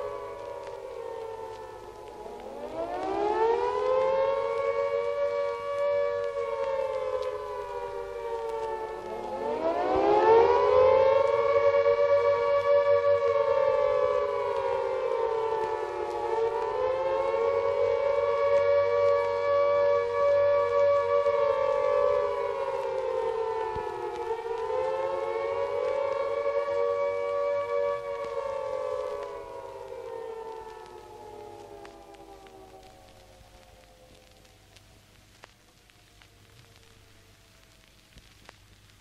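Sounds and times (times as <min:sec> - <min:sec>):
two-note siren wailing: 0:00.0 - 0:38.0.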